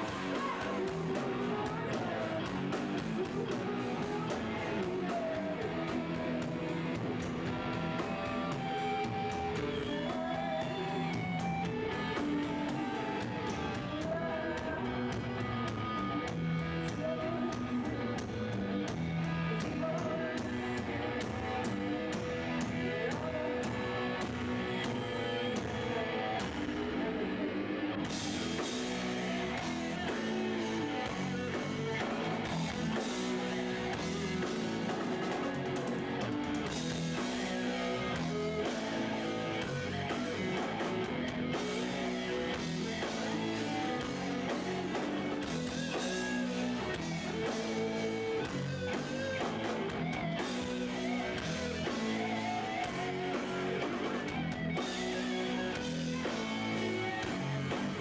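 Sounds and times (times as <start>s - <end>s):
drum kit: 0.0s - 58.0s
electric guitar: 0.0s - 58.0s.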